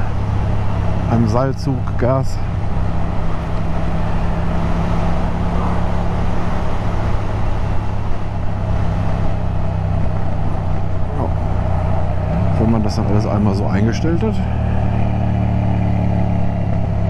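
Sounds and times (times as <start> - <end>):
motorcycle engine running: 0.0 - 17.0
rushing road noise: 0.0 - 17.0.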